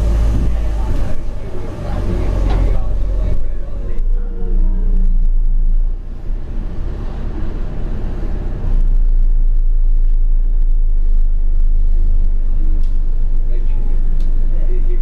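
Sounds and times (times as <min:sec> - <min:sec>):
bus engine low drone: 0:00.0 - 0:15.0.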